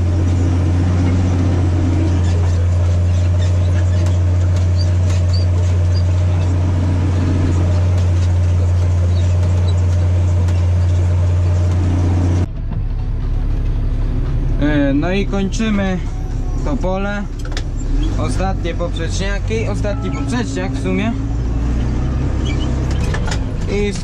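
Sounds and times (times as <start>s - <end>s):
tractor engine droning: 0.0s - 24.0s.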